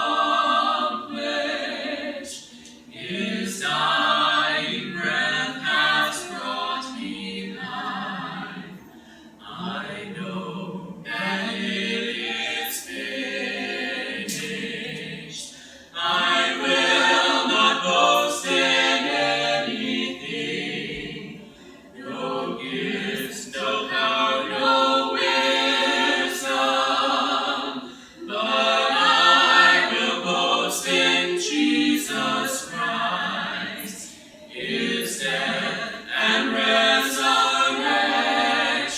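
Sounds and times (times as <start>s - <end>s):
vocal group singing a cappella: 0.0s - 38.9s.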